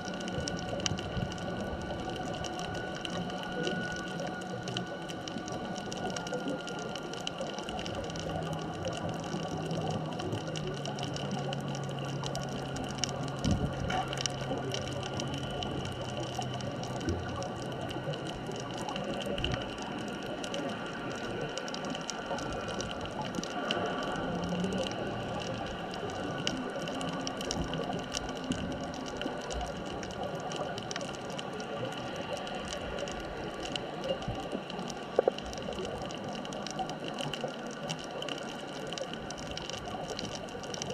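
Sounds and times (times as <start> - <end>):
steady humming tones: 0.0 - 40.9
underwater fine crackling: 0.0 - 40.9.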